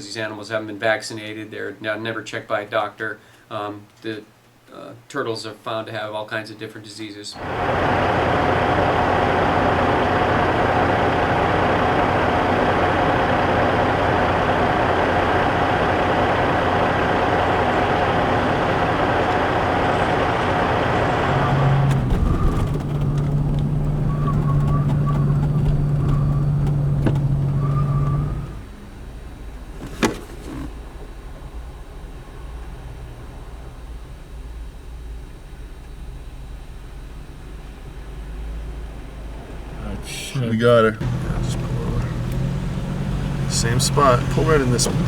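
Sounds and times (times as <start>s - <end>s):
low engine hum: 7.4s - 45.0s
vehicle road and engine noise: 7.4s - 45.0s.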